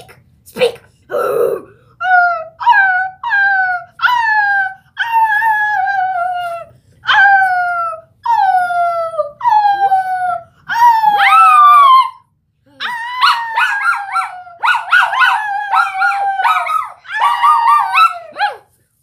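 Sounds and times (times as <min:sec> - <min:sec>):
dog howling and whining: 0:02.0 - 0:18.7.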